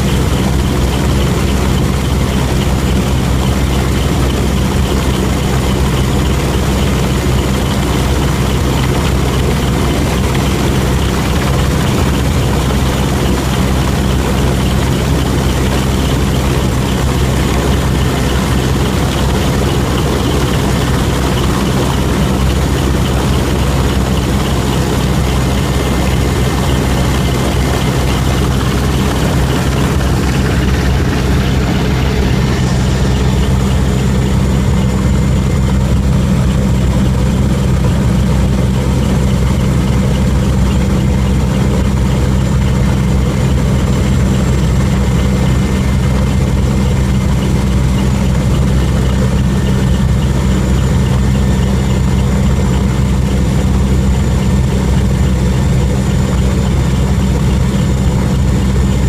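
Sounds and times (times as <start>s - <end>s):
aircraft engines droning: 0.0s - 59.0s.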